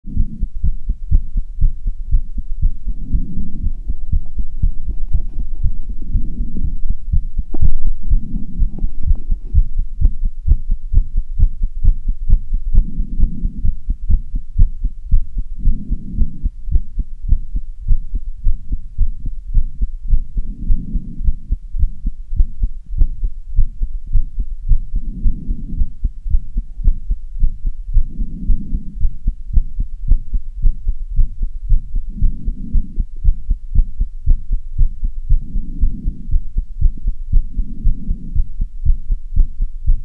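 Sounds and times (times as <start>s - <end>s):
fast heartbeat thuds: 0.1s - 40.0s.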